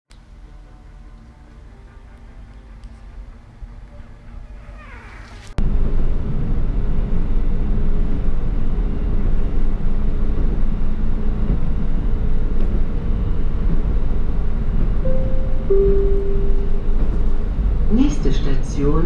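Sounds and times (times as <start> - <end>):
railcar engine drone: 0.1 - 19.0.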